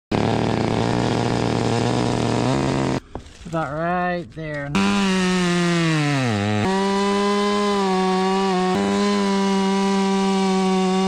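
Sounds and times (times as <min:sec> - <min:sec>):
chainsaw cutting tree trunk: 0:00.1 - 0:03.1, 0:04.7 - 0:11.0.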